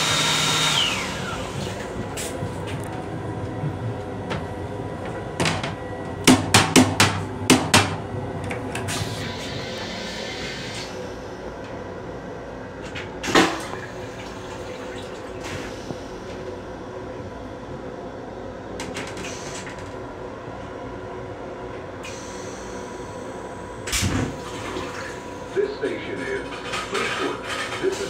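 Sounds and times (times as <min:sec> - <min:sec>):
railcar equipment hum: 0:00.0 - 0:28.0.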